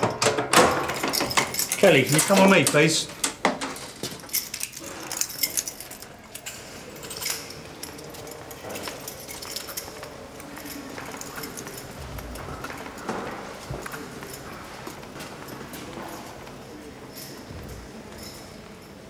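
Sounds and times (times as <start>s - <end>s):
keys jangling on belt: 0.0s - 19.0s.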